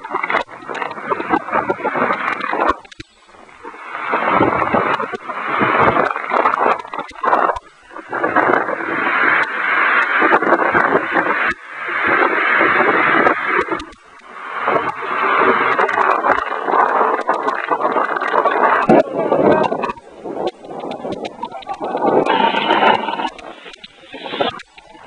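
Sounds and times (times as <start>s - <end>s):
heavy rain: 0.0s - 25.0s
wind: 0.0s - 25.0s.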